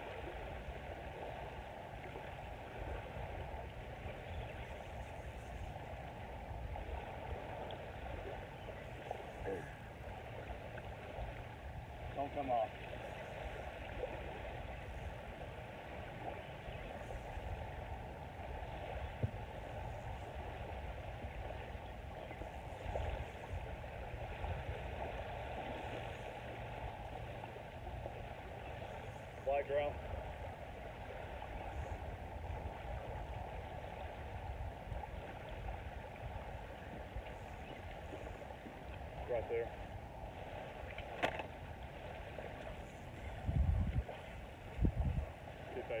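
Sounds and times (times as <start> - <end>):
small waves lapping on shore: 0.0 - 46.0
surf washing onto sandy beach: 0.0 - 46.0
wind buffeting microphone: 0.0 - 46.0.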